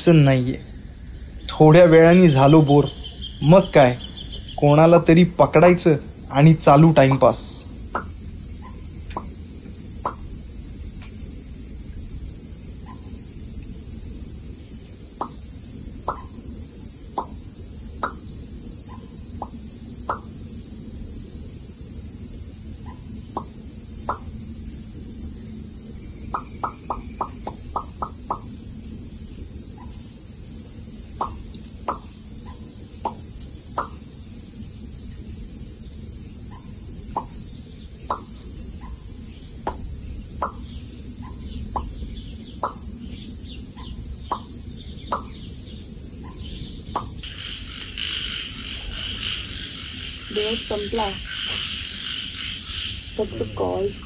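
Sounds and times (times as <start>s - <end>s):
insect chorus buzzing: 0.0s - 54.0s.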